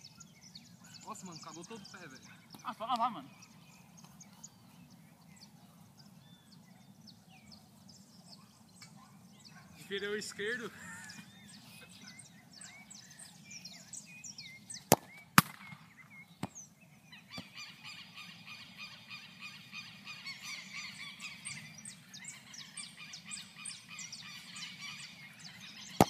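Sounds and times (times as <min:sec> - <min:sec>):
birds chattering: 0:00.0 - 0:26.0.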